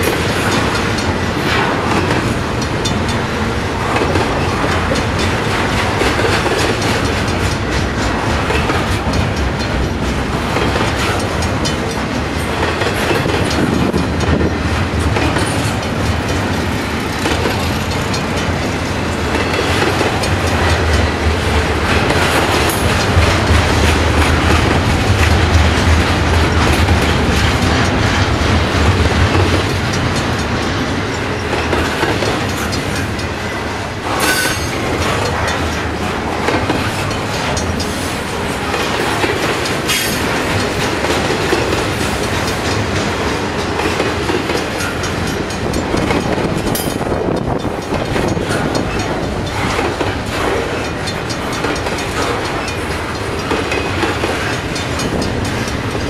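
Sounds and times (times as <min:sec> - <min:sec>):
train wheels rumbling and rattling: 0:00.0 - 0:56.0.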